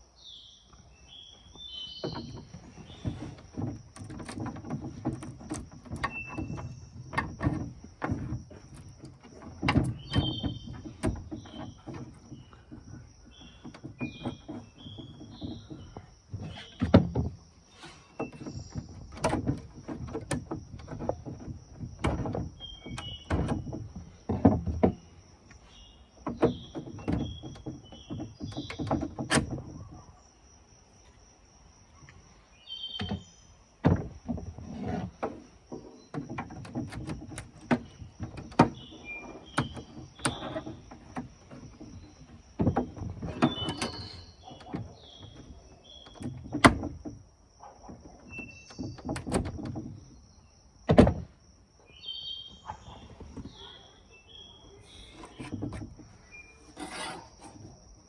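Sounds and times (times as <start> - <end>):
small birds chirping: 0.0 - 31.2, 31.8 - 34.0, 37.0 - 50.8, 51.8 - 58.0
knocks clunks and rubbing: 0.7 - 51.6, 52.5 - 58.0.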